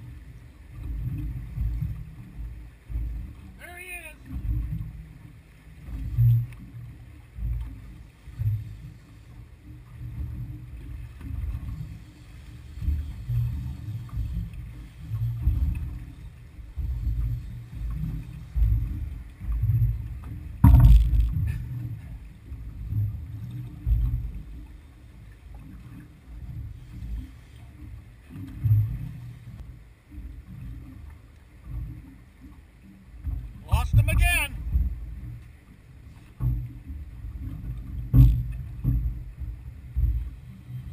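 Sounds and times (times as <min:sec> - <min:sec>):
water slapping boat hull: 0:00.0 - 0:40.9.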